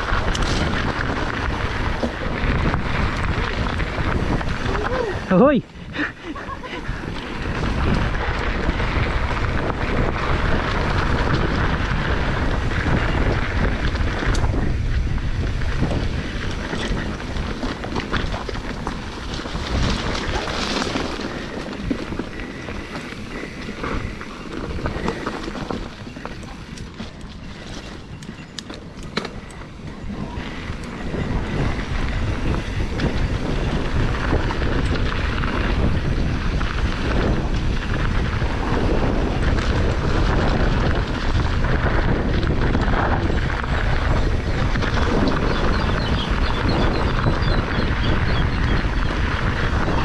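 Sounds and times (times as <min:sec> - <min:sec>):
bike rattling over rough ground: 0:00.0 - 0:50.0
wind buffeting microphone: 0:00.0 - 0:50.0.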